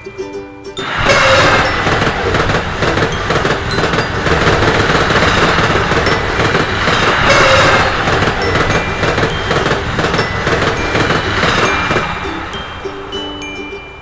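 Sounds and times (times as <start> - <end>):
short chiming tones: 0.0 - 14.0
train wheels clattering on rails: 0.8 - 14.0.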